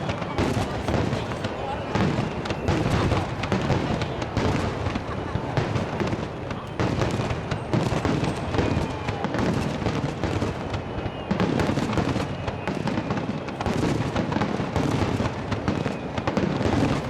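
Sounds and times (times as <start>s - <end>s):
fireworks booming and crackling: 0.0s - 17.0s.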